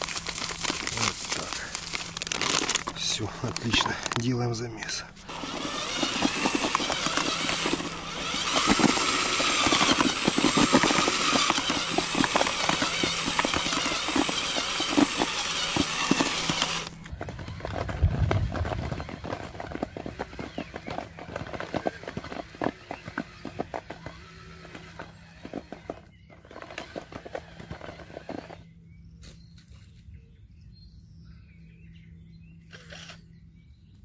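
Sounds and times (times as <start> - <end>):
crumbs crackling against bucket: 0.0 - 28.4
cordless drill motor whine: 0.0 - 28.8.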